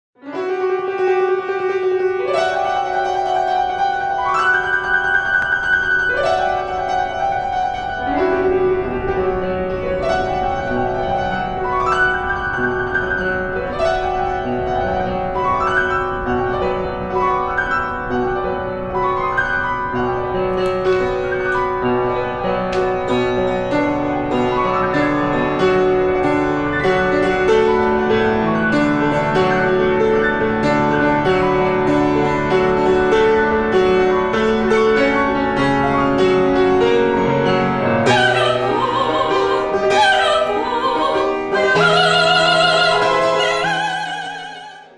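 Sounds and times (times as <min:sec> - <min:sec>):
classical piano music: 0:00.2 - 0:44.9.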